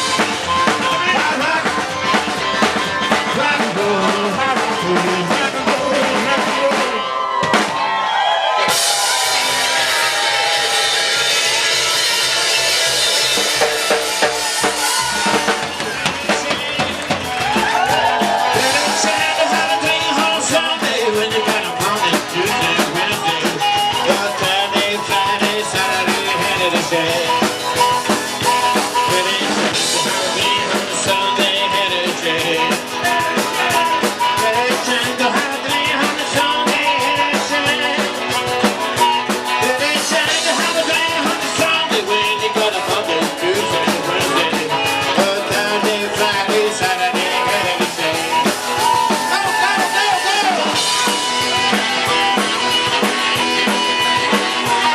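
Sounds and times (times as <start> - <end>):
drum kit beating: 0.0 - 54.9
rock and roll band playing: 0.0 - 54.9.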